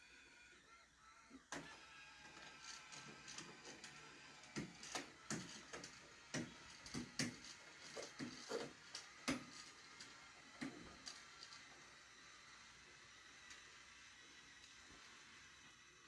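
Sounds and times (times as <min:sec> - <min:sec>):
faint motor whine: 0:00.0 - 0:16.0.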